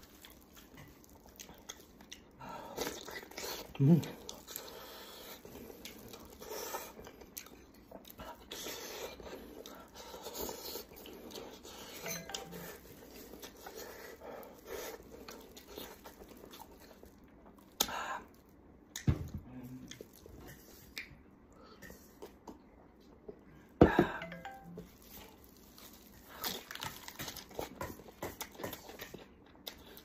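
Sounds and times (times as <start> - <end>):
person chewing and smacking: 0.0 - 21.2, 24.3 - 30.0.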